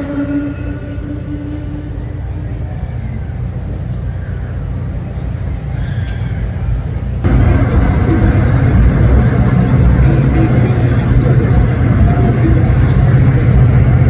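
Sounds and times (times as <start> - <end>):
train passing rumble: 0.0 - 14.0.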